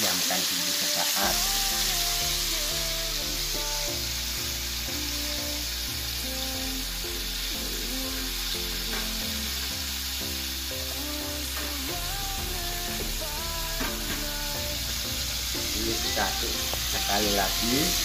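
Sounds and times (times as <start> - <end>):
fish deep-frying in oil: 0.0 - 18.0
background music with bass: 1.1 - 18.0.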